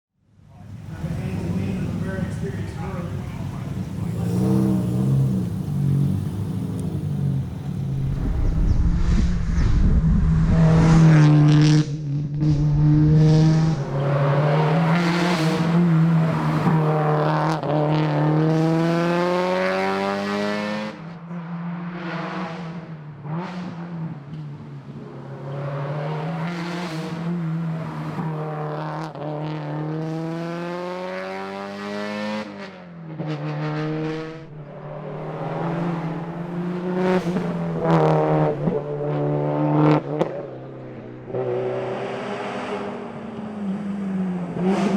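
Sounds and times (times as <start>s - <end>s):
car engine accelerating hard: 0.6s - 44.9s.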